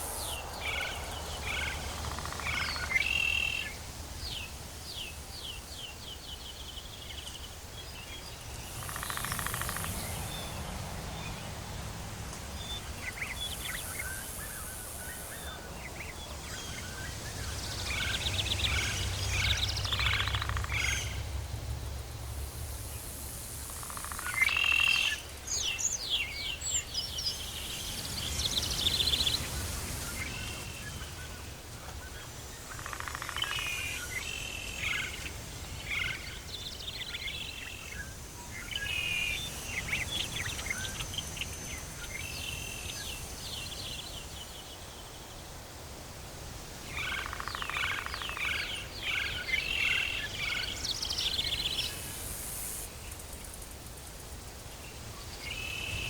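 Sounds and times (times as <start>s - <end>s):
birds chirping and trilling: 0.0s - 11.8s, 12.5s - 21.4s, 23.9s - 45.4s, 46.9s - 52.2s.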